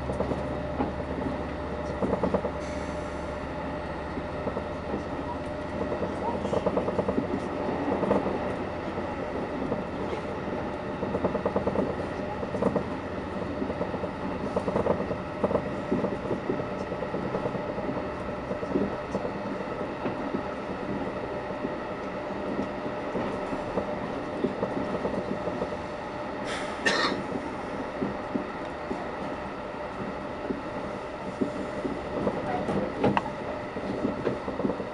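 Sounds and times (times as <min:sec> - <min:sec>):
train rumbling and rattling: 0:00.0 - 0:34.9.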